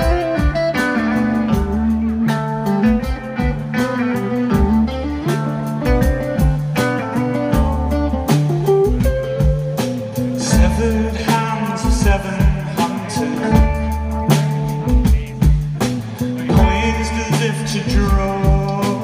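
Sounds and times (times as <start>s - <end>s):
live rock band instrumental: 0.0s - 19.0s.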